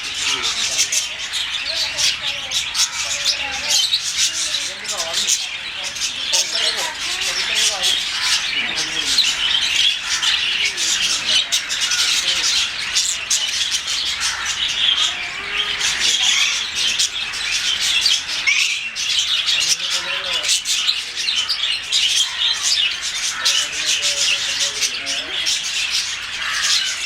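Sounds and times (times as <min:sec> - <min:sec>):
lovebirds chattering: 0:00.0 - 0:27.0.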